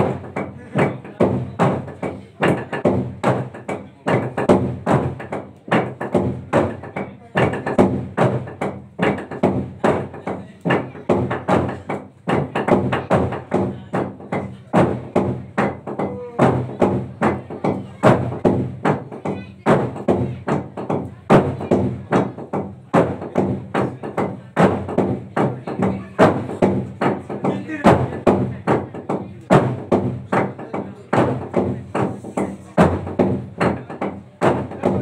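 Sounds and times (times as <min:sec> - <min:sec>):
wooden strikes on log drum: 0:00.0 - 0:35.0.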